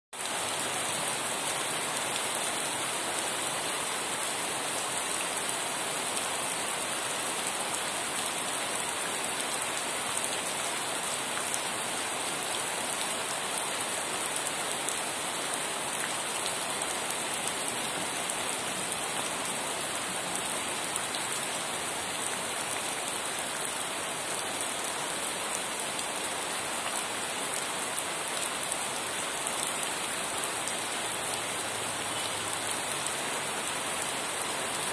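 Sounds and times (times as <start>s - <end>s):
steady rain hissing: 0.2s - 34.9s.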